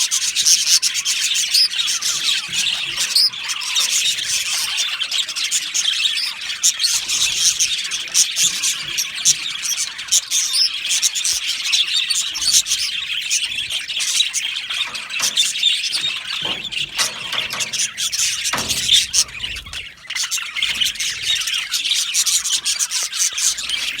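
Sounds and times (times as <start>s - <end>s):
budgerigars chattering and chirping: 0.0s - 24.0s.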